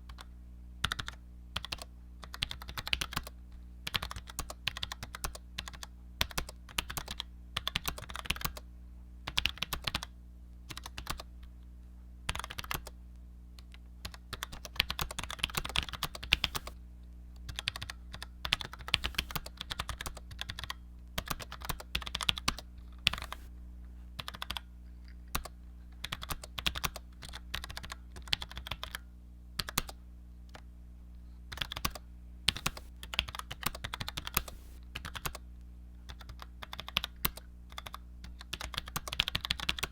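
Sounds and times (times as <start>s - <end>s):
steady low hum: 0.0s - 39.4s.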